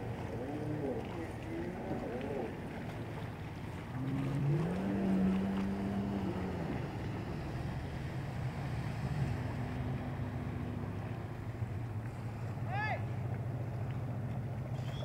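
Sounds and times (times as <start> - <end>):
boat motor revving: 0.0 - 15.0
water noise: 0.0 - 15.0
wind: 0.0 - 15.0.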